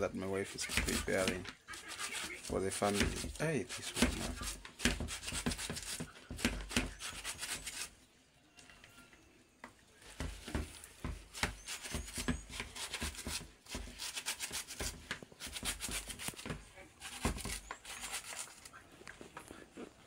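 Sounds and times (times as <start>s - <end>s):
knife slicing leaves: 0.5s - 7.9s, 10.1s - 18.8s.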